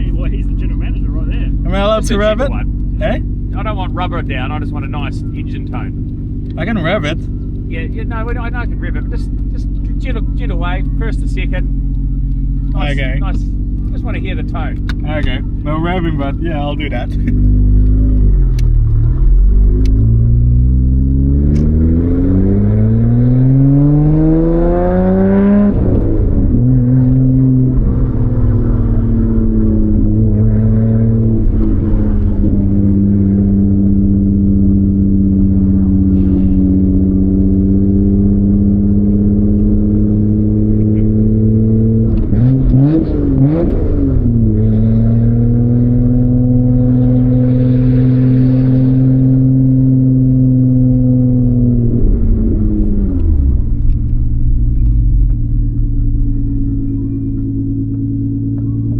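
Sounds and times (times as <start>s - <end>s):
car engine accelerating: 0.0s - 58.9s.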